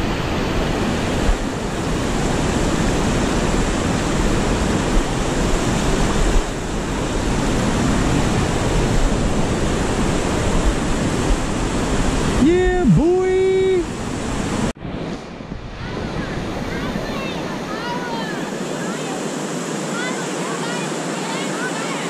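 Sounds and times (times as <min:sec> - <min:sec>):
river rapids rushing: 0:00.0 - 0:14.7, 0:15.8 - 0:22.0.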